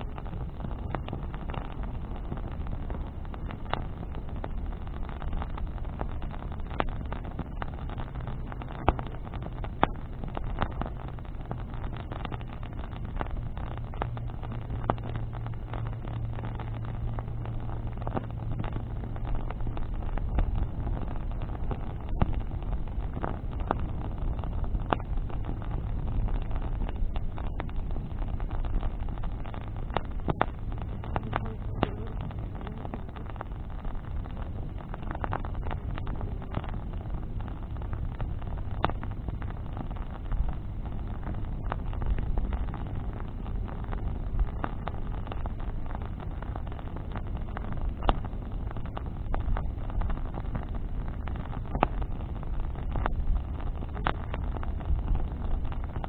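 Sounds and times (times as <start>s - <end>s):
bonfire crackling: 0.0s - 56.0s
fire popping: 0.0s - 56.0s
low rumble: 0.0s - 56.0s.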